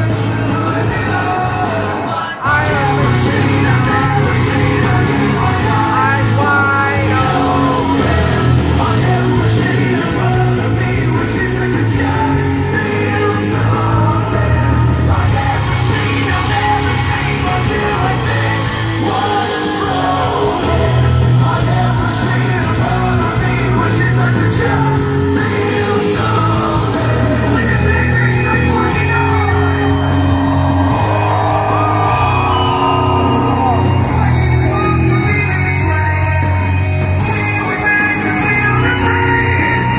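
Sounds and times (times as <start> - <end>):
live hard rock band: 0.0 - 39.9
person singing: 0.0 - 39.9.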